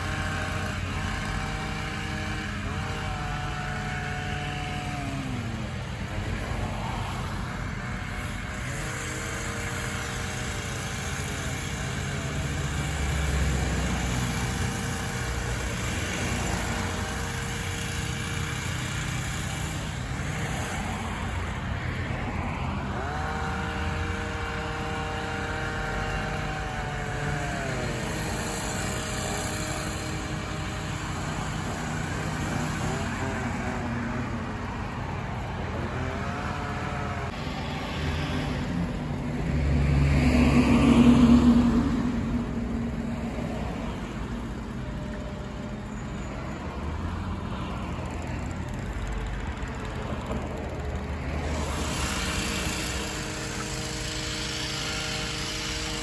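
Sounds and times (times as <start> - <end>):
higher-pitched engine revving: 0.0 - 56.0
truck engine humming: 0.0 - 56.0.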